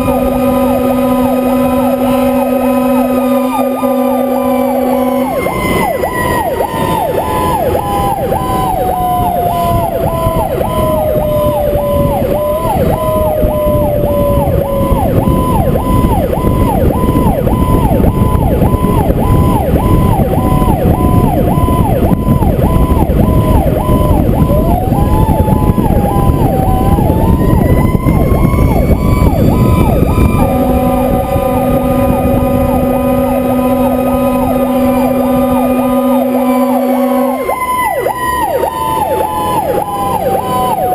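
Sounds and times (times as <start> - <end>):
air horn blast: 0.0 - 18.2, 24.4 - 39.3
electronic siren yelping: 0.0 - 40.9
truck engine and road noise: 0.0 - 40.9.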